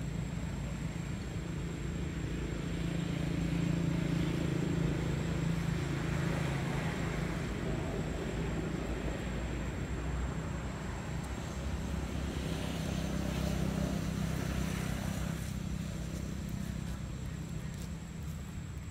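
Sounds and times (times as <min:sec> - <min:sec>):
vehicle engine drone passing: 0:00.0 - 0:18.9.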